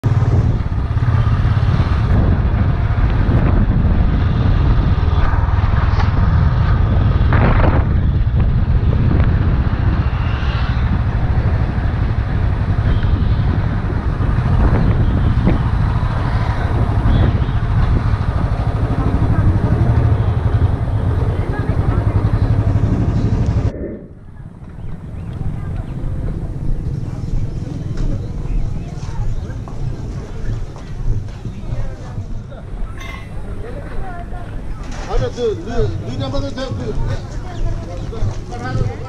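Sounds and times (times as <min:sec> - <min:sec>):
motorcycle engine rumbling: 0:00.0 - 0:39.0
wind buffeting microphone: 0:00.0 - 0:39.0.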